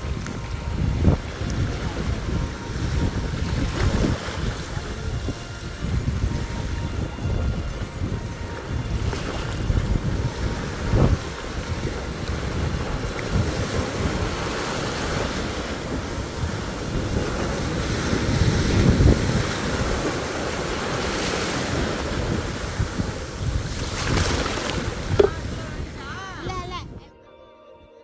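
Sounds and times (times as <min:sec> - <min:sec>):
waves washing onto beach: 0:00.0 - 0:26.4
wind buffeting microphone: 0:00.0 - 0:27.0.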